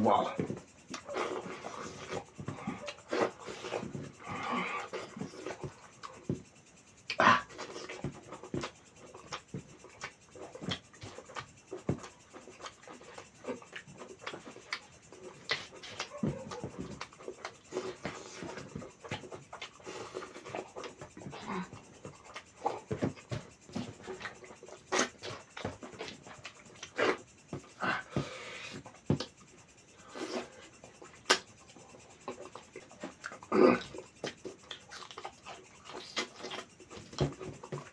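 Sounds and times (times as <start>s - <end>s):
chewing and lip smacks: 0.4s - 27.8s, 30.2s - 37.9s.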